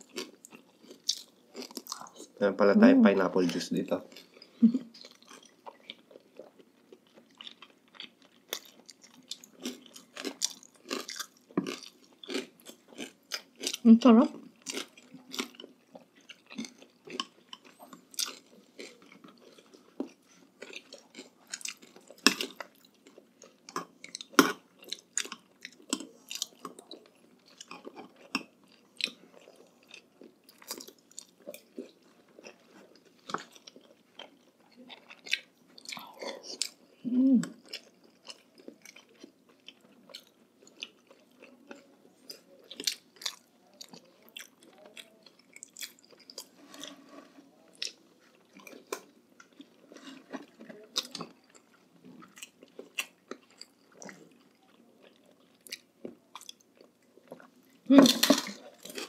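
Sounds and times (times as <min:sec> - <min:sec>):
close chewing and biting: 0:00.0 - 0:02.4, 0:03.4 - 0:59.0.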